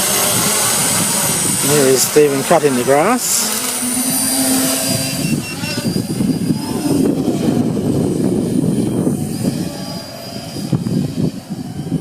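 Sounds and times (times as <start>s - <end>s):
drone motors whining: 0.0s - 12.0s
wind buffeting microphone: 0.0s - 12.0s.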